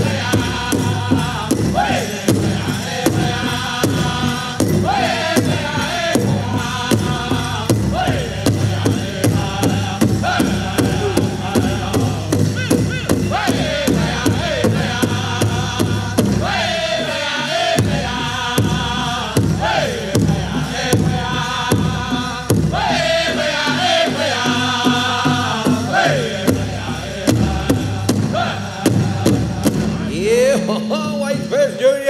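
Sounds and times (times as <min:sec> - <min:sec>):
big drum steady beat: 0:00.0 - 0:31.6
voices chanting: 0:00.0 - 0:32.0.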